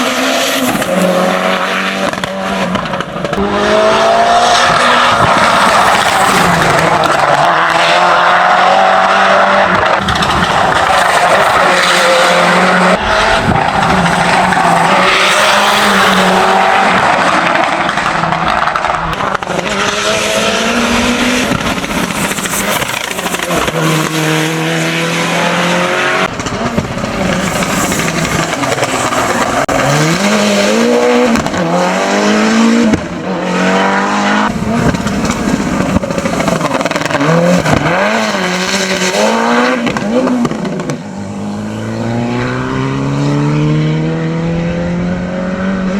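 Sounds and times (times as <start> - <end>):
race car engine at full throttle: 0.0 - 45.9.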